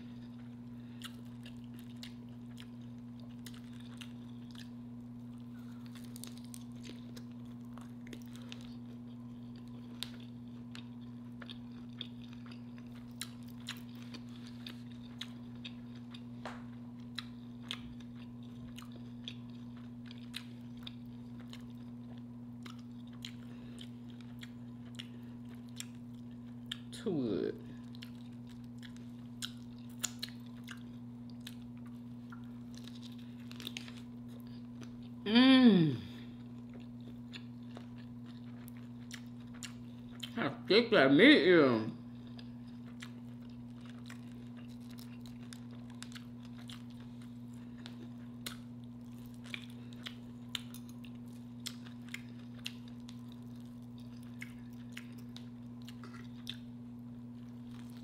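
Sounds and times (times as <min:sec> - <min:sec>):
close chewing: 0:00.1 - 0:27.0, 0:27.8 - 0:35.1, 0:36.4 - 0:40.4, 0:42.1 - 0:58.0.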